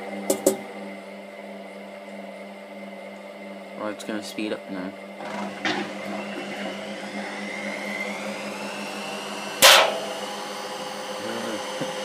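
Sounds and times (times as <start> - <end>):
washing machine motor whine: 0.0 - 12.0.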